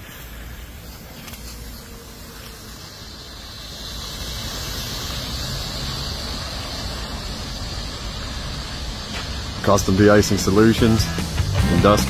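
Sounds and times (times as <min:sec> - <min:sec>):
truck engine rumble: 0:00.0 - 0:12.0
water hissing on pavement: 0:00.0 - 0:12.0.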